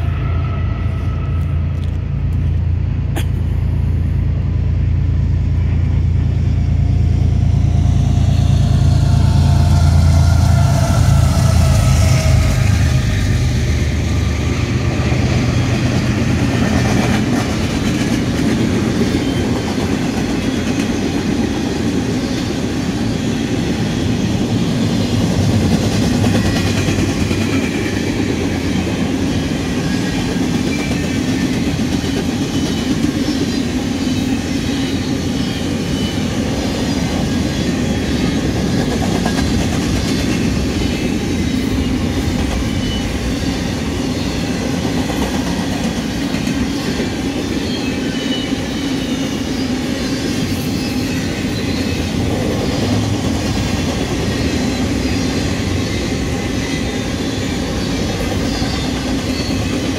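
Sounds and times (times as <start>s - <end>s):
diesel locomotive rumble: 0.0s - 59.9s
steel wheels on rail: 0.0s - 59.9s.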